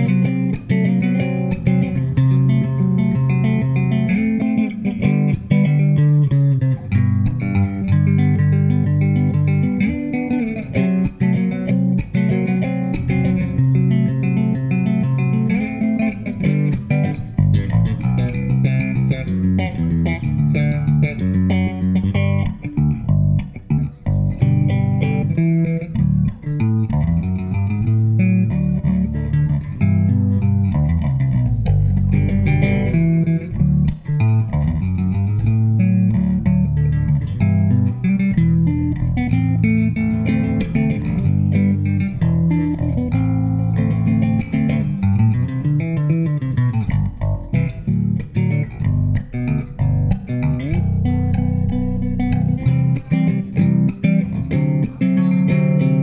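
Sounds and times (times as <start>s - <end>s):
electric bass played fingerstyle: 0.0s - 56.0s.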